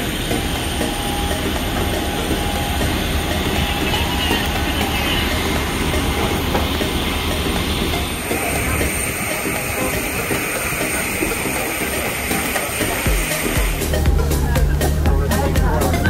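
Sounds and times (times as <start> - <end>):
high steady whine: 0.0 - 16.0
low machinery rumble: 0.0 - 16.0.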